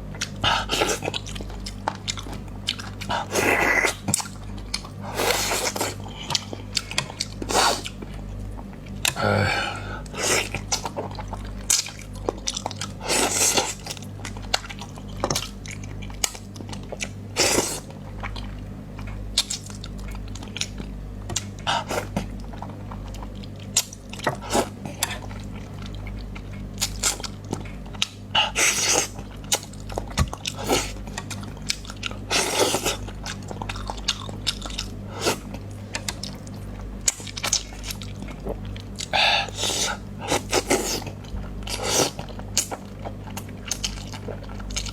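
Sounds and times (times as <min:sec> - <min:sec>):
steady low hum: 0:00.0 - 0:44.9
chewing and biting: 0:00.1 - 0:09.2, 0:10.0 - 0:44.9.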